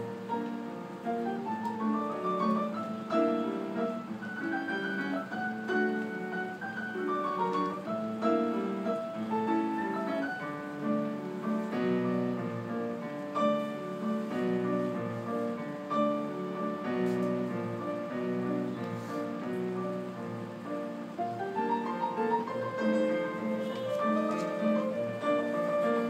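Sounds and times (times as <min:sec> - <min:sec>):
classical grand piano: 0:00.0 - 0:26.0.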